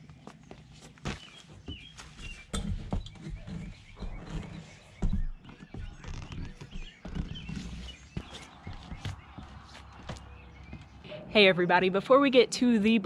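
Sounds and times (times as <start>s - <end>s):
birds chirping: 0.0s - 13.0s
footsteps and thumps on ladder: 0.2s - 11.0s.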